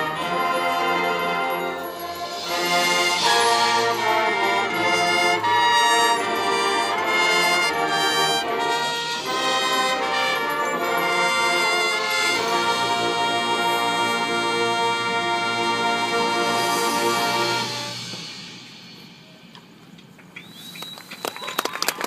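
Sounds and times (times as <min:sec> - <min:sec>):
brass band playing held chords: 0:00.0 - 0:19.2.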